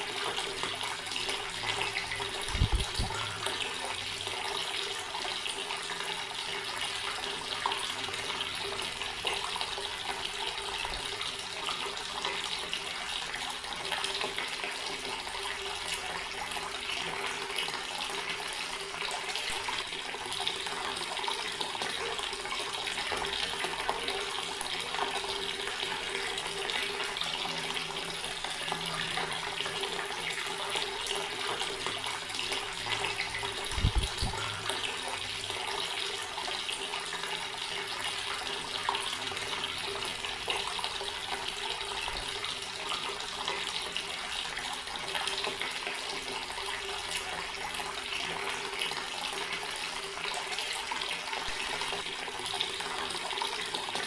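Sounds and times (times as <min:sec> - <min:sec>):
water tap running: 0:00.0 - 0:54.0.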